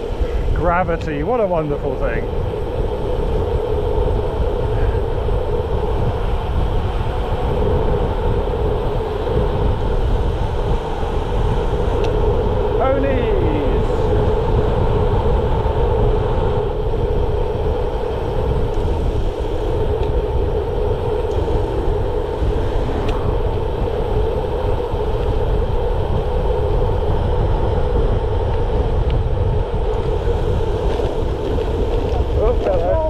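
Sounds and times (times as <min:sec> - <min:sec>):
bicycle tyres rolling on tarmac: 0:00.0 - 0:33.0
wind noise on microphone: 0:00.0 - 0:33.0.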